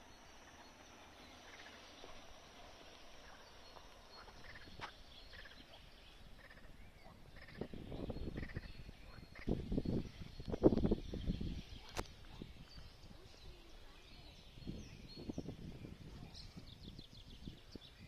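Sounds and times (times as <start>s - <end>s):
bird chirps: 0.0s - 18.0s
low steady rumble: 0.0s - 18.0s.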